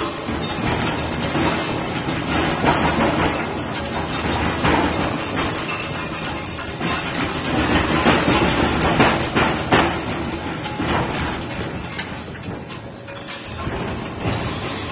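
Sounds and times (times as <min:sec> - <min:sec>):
rebar cutting machine running: 0:00.0 - 0:14.9.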